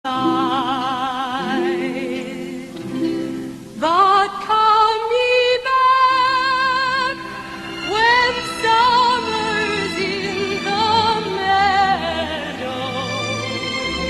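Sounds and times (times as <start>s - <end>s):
person singing with vibrato: 0.0s - 14.0s
soft musical accompaniment: 0.1s - 14.0s.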